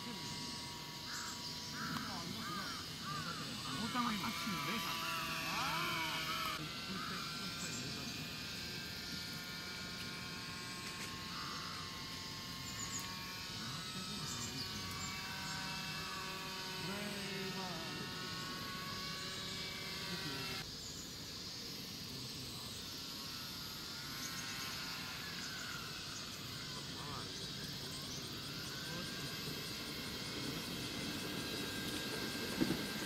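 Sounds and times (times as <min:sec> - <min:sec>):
electric motor and propeller whine: 0:00.0 - 0:33.0.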